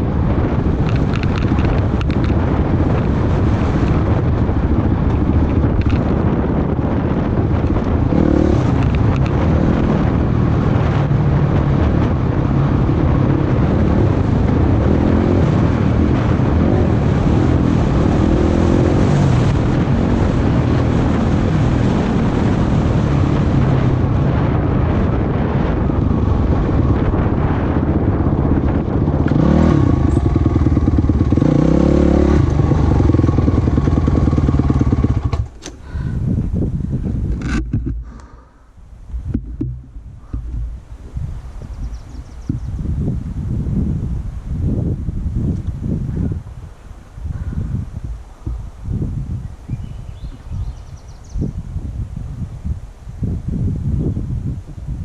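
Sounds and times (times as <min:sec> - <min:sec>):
off-road vehicle engine running: 0:00.0 - 0:51.3
wind buffeting microphone: 0:00.0 - 0:55.0.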